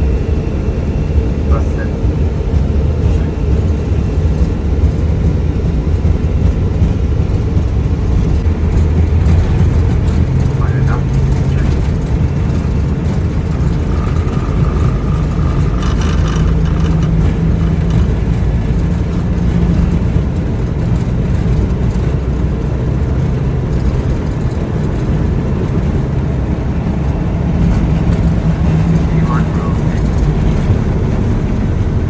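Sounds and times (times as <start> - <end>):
aircraft engine and airflow rumble: 0.0 - 32.0.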